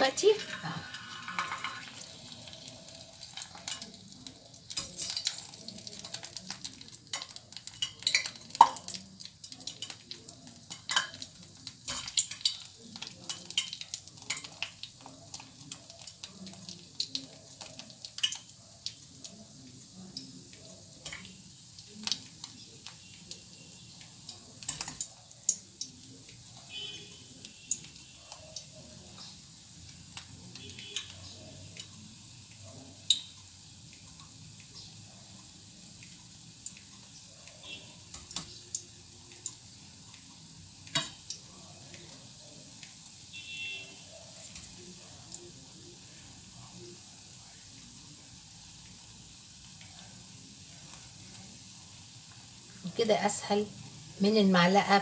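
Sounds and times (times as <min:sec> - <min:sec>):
batter sizzling in oil: 0:00.0 - 0:55.0.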